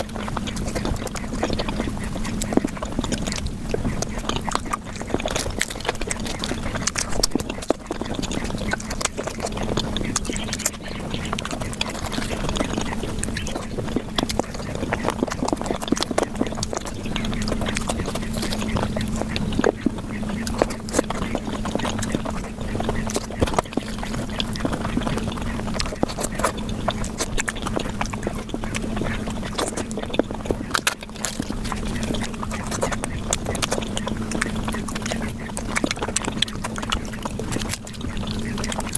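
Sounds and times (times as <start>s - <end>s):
sped-up wet chewing and smacking: 0.0s - 38.9s
steady hum-like drone: 0.0s - 38.9s.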